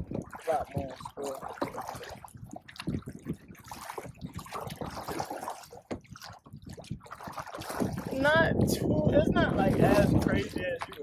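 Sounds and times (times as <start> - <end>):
waves splashing against kayak hull: 0.0 - 11.0.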